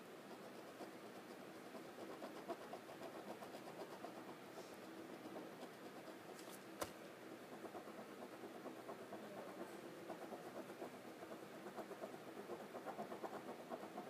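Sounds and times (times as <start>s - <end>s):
pen scratching on paper: 0.3s - 6.5s, 7.4s - 14.0s.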